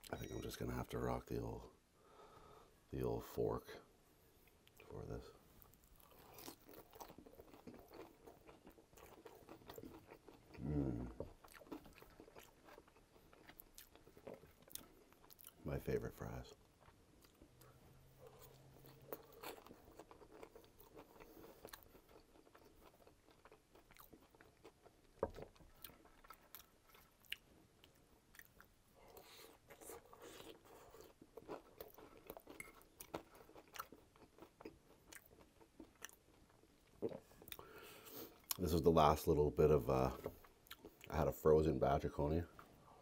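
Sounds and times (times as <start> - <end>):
man chewing food: 4.2 - 15.6, 16.5 - 38.9, 40.1 - 41.2, 42.4 - 43.0.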